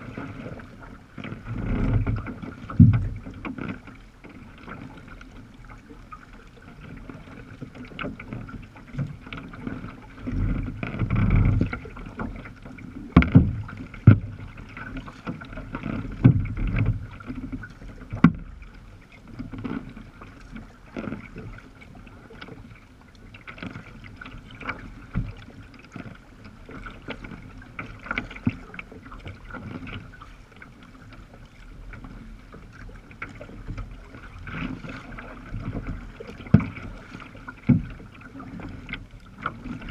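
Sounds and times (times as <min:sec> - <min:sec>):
water slapping against kayak hull: 0:00.0 - 0:39.9
wind: 0:00.0 - 0:39.9.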